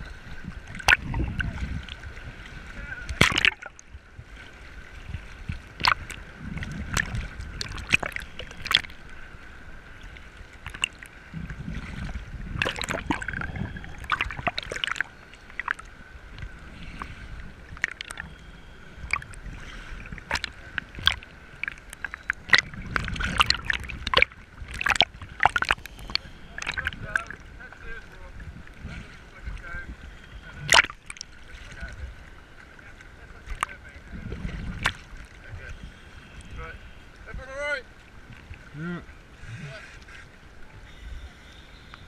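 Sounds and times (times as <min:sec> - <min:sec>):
sea water sloshing and splashing: 0:00.0 - 0:41.6
muffled underwater rumble: 0:00.0 - 0:42.0.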